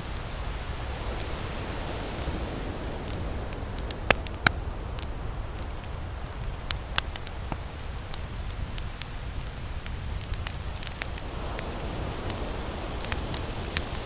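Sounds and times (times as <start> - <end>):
campfire crackling: 0.0 - 14.0
fire popping and snapping: 0.0 - 14.0.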